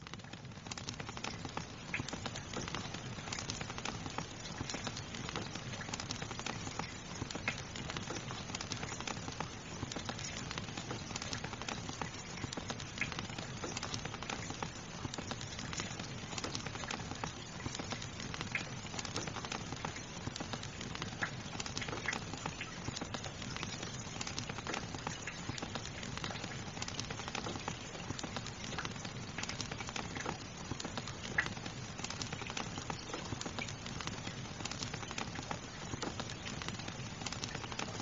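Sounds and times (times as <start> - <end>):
fire crackling and popping: 0.0 - 38.0
soft rain: 0.0 - 38.0.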